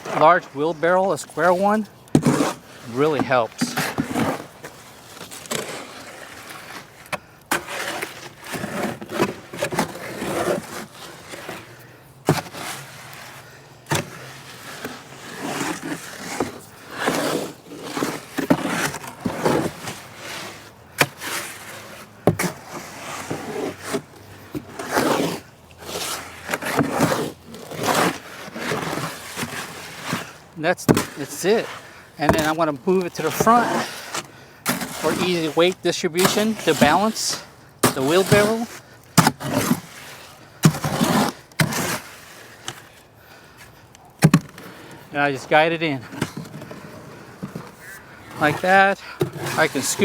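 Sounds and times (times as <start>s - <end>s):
scraping through wet concrete: 0.0s - 50.0s.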